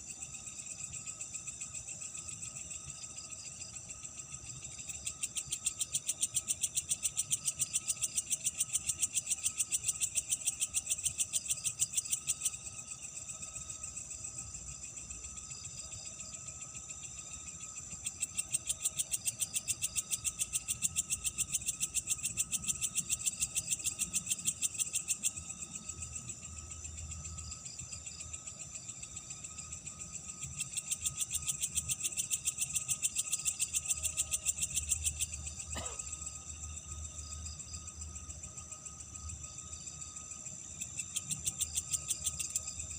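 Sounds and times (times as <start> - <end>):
faint steady insect trill: 0.0 - 42.9
insects chirping in pulses: 0.0 - 42.9.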